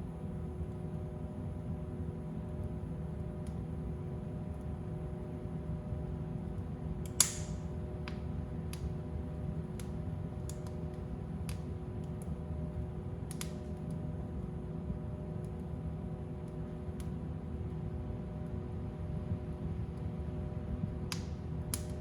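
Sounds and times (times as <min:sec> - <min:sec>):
fire crackling in fireplace: 0:00.0 - 0:18.6, 0:19.5 - 0:22.0.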